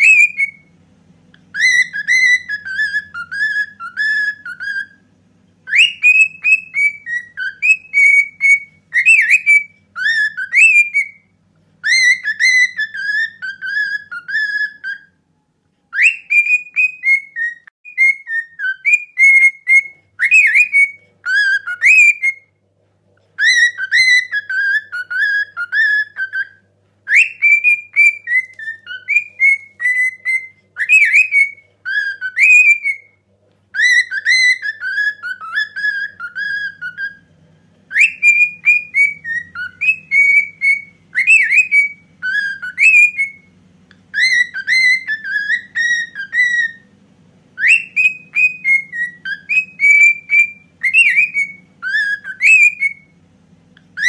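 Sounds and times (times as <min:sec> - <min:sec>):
cockatiel whistling a melody: 0:00.0 - 0:22.6, 0:23.3 - 0:54.0.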